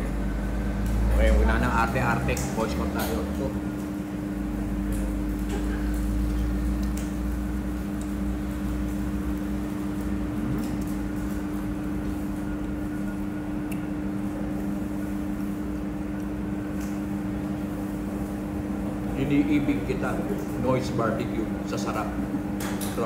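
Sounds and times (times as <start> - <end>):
machine hum with low drone: 0.0 - 23.0.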